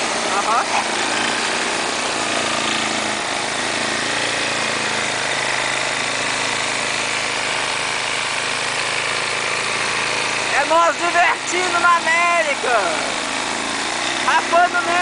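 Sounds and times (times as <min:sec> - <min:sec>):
snowblower engine running: 0:00.0 - 0:15.0.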